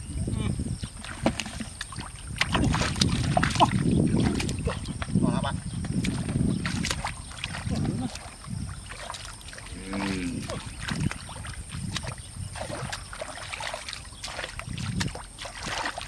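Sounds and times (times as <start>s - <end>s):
hands splashing in muddy water: 1.0s - 5.0s, 5.8s - 16.0s.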